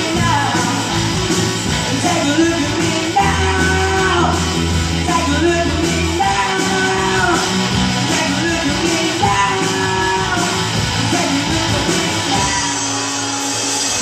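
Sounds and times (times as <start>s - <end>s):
bass guitar: 0.0s - 14.0s
drum kit: 0.0s - 14.0s
electric guitars: 0.0s - 14.0s
person singing lead vocal: 0.0s - 14.0s.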